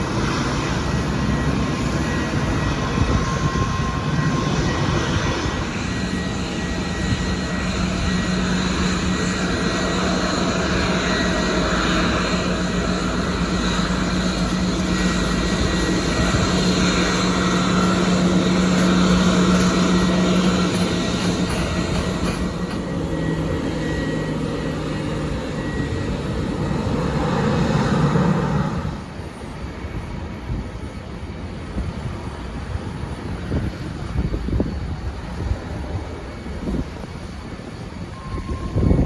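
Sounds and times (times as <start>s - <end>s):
jet engines humming: 0.0s - 39.0s.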